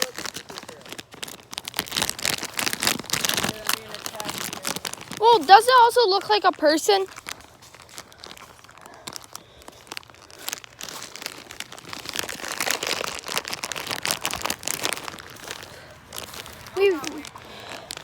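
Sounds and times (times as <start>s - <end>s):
footsteps through dry leaves: 0.0s - 18.0s.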